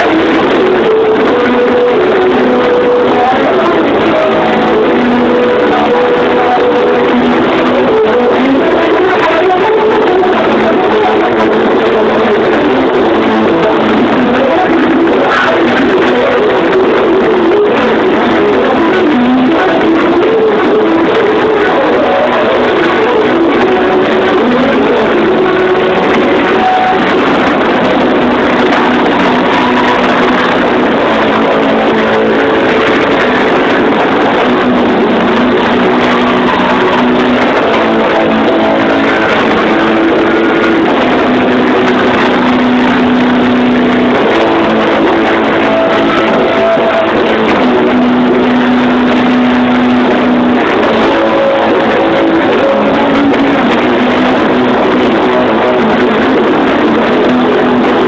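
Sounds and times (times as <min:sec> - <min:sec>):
distorted electric guitar riff: 0:00.0 - 0:58.0.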